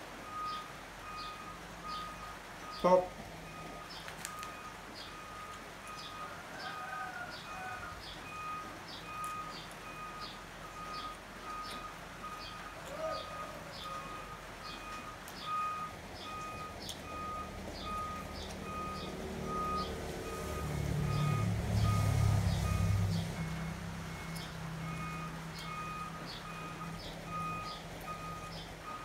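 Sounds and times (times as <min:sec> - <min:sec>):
vehicle engine: 0:00.0 - 0:29.0.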